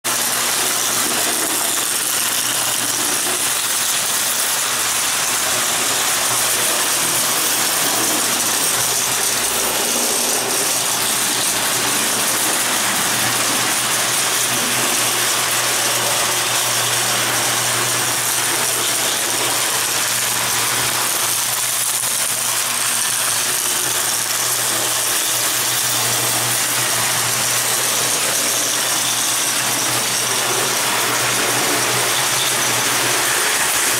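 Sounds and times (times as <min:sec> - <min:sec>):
toy train wheels rattling: 0:00.0 - 0:33.9.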